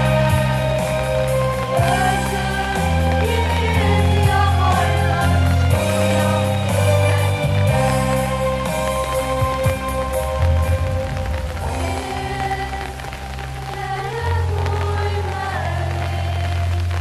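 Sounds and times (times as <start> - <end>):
instrumental chords: 0.0 - 17.0
person singing: 0.0 - 17.0
slow bass line: 0.0 - 17.0.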